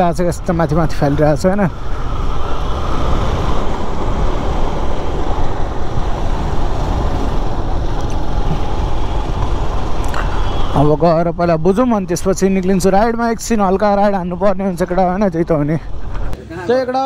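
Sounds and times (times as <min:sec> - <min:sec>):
wind rushing on microphone: 0:00.0 - 0:16.4
road noise: 0:00.0 - 0:17.0.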